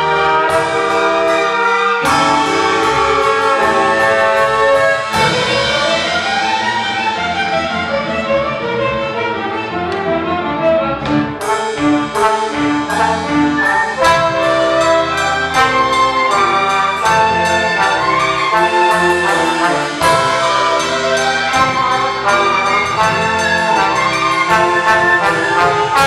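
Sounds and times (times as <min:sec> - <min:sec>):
orchestra sharp accented hits: 0:00.0 - 0:10.0, 0:11.1 - 0:26.0
brass section: 0:00.0 - 0:26.0
strings: 0:00.0 - 0:26.0.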